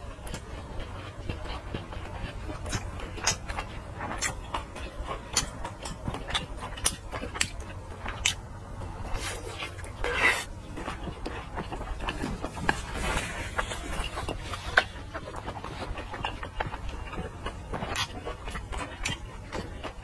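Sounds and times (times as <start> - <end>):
biting and chewing sausage: 0.0 - 20.0.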